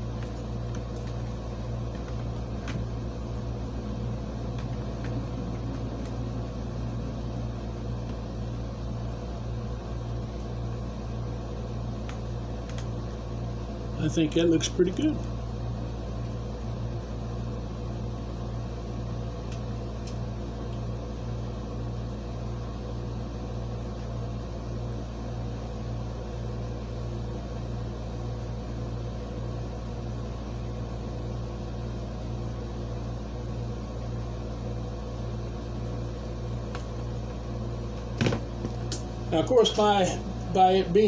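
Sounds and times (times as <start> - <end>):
air conditioner humming: 0.0 - 41.0
fan whirring: 0.0 - 41.0.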